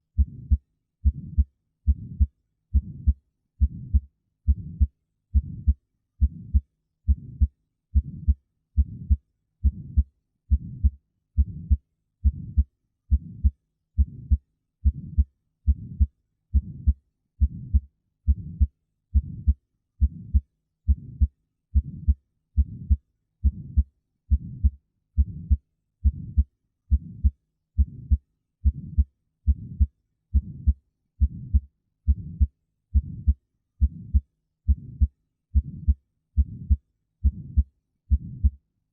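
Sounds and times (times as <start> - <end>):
heartbeat through stethoscope: 0.2 - 38.6.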